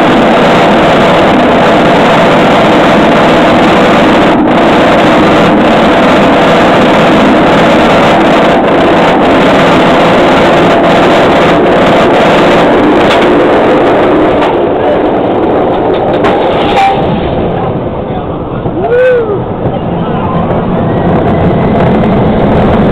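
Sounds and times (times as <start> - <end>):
roller coaster chain lift: 0.0 - 22.9.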